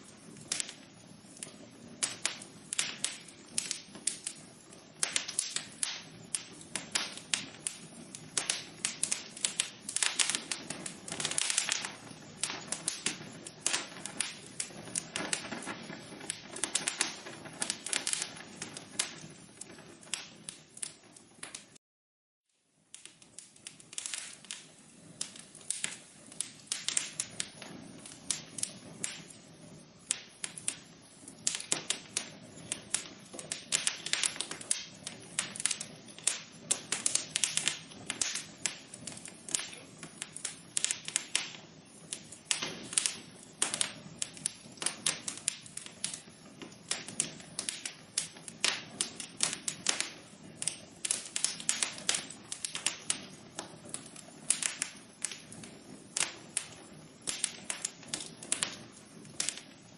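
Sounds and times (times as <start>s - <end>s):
soft low rush of burning: 0.0s - 21.8s, 22.5s - 59.9s
wood fire crackling: 0.0s - 21.8s, 22.5s - 59.9s.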